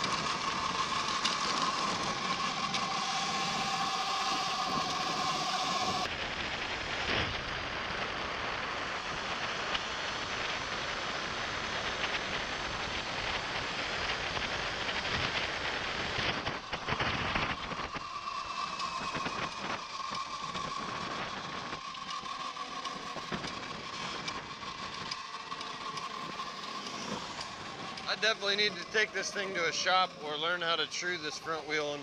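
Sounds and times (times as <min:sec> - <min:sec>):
electric motor whine: 0:00.0 - 0:32.0
wind rushing over microphone: 0:00.0 - 0:32.0.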